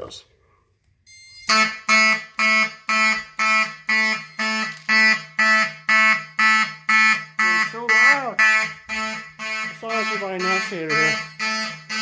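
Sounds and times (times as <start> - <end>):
fire alarm horn pulsing: 1.0 - 12.0.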